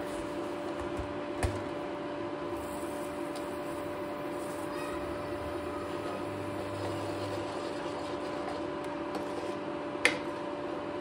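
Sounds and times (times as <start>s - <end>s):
induction cooktop hum and fan: 0.0s - 11.0s.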